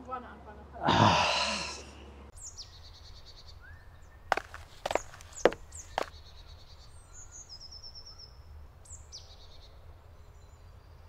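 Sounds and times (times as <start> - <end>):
birds singing: 1.6 - 11.0.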